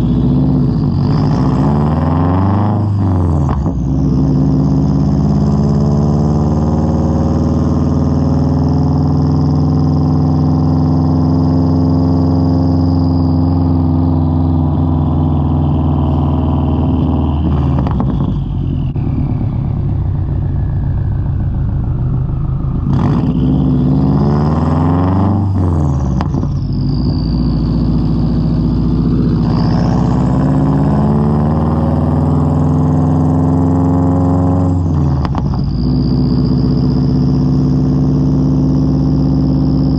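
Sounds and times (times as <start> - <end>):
loud car engine: 0.0 - 39.9.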